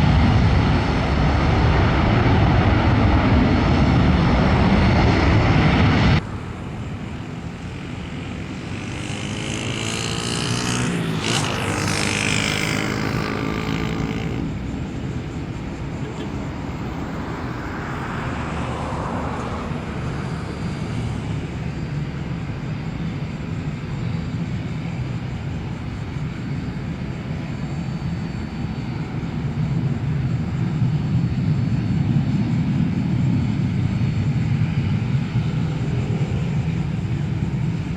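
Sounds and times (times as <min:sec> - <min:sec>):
jet engines passing by: 0:00.0 - 0:37.9.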